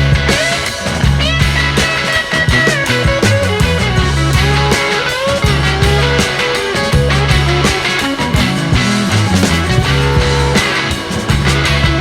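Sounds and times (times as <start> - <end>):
bass line: 0.0 - 12.0
guitar: 0.0 - 12.0
rock music: 0.0 - 12.0
steady drum beat: 0.0 - 12.0.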